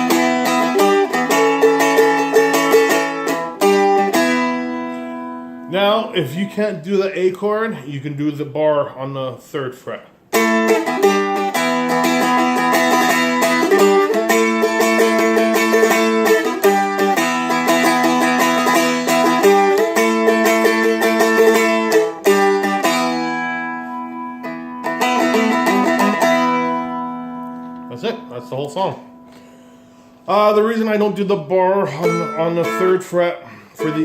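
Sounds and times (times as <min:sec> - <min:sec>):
fretted string instrument strummed: 0:00.0 - 0:06.2, 0:10.3 - 0:34.0.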